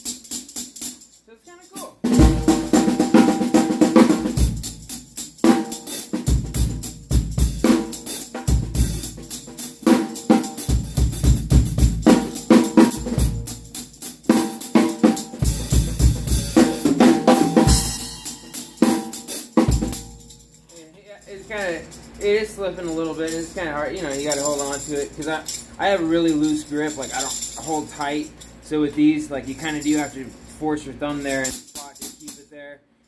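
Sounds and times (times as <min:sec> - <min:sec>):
drum kit groove: 0:00.0 - 0:28.6
tambourine jingles: 0:00.0 - 0:32.7.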